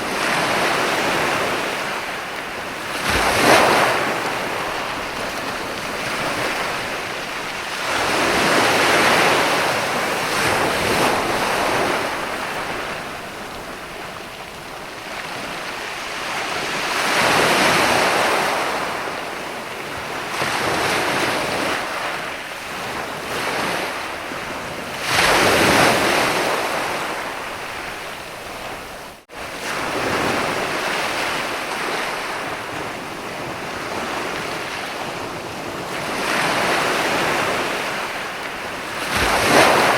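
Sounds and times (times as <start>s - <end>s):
ocean waves breaking on sand: 0.0s - 39.9s.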